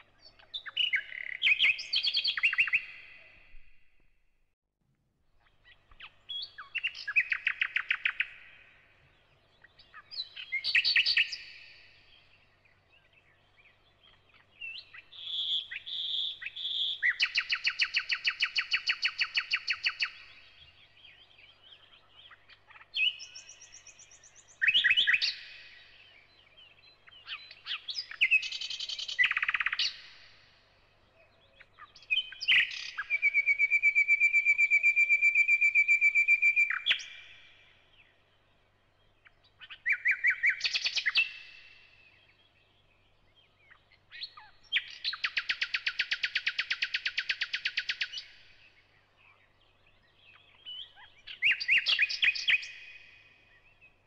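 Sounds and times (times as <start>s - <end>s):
bird singing: 0.0s - 4.1s, 5.4s - 54.0s.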